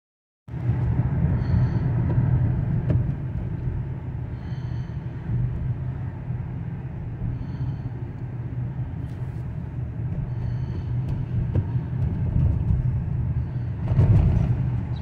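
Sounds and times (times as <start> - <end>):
car engine and tyre rumble: 0.5 - 15.0.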